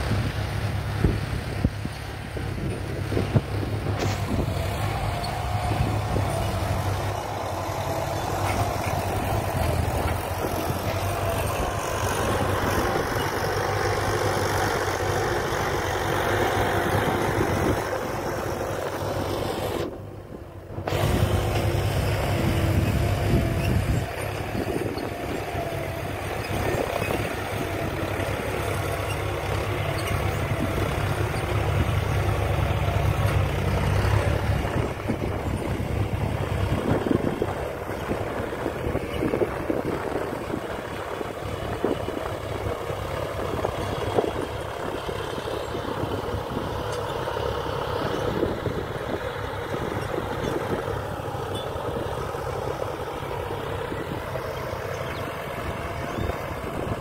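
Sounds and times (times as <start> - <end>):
tractor diesel engines running: 0.0 - 57.0.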